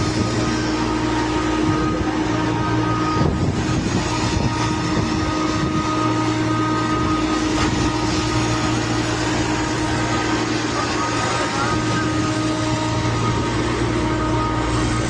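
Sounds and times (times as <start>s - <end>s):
constant low hum: 0.0s - 15.0s
mechanical rushing drone: 0.0s - 15.0s.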